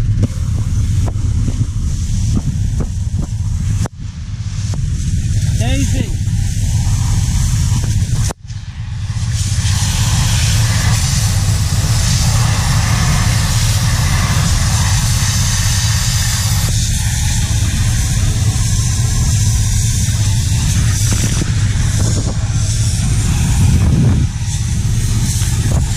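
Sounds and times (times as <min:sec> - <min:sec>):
pressure washer running: 0:00.0 - 0:25.9.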